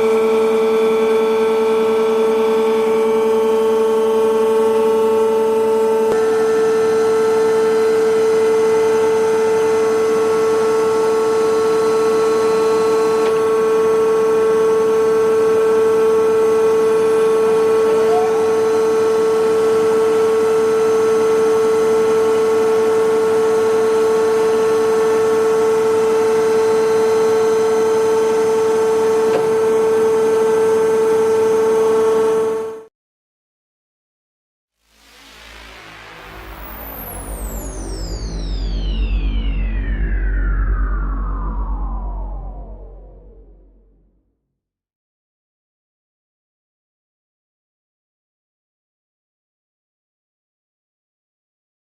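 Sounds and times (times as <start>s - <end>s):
milling machine whine: 0.0s - 32.8s, 35.1s - 43.9s.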